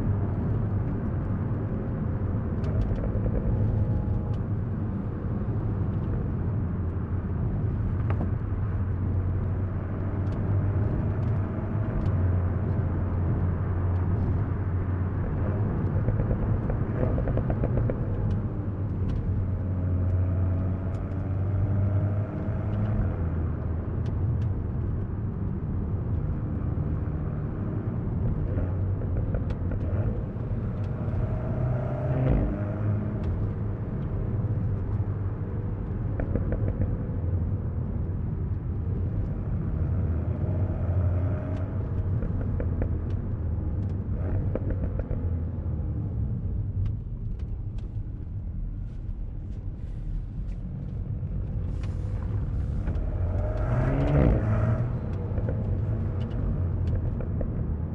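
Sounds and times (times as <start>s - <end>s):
road noise: 0.0s - 57.9s
car engine accelerating: 7.4s - 57.9s.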